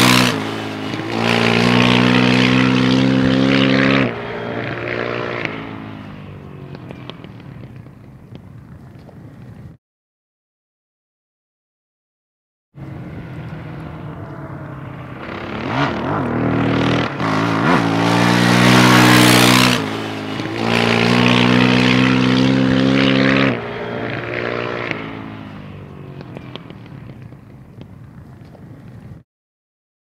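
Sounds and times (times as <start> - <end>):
motorcycle engine accelerating: 0.0 - 9.0, 12.8 - 29.0
wind noise: 0.0 - 9.8, 12.8 - 29.2.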